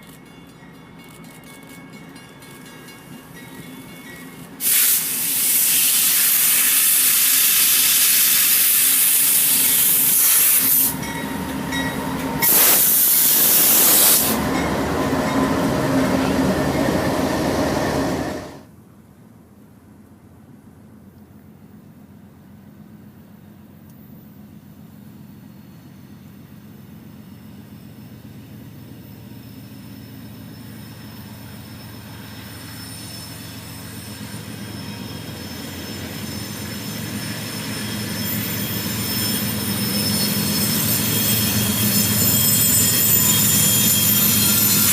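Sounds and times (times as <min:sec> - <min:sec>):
wheels squealing on rails: 0:00.0 - 0:18.7, 0:24.0 - 0:44.9
train rumbling on rails: 0:00.0 - 0:19.0, 0:19.9 - 0:44.9.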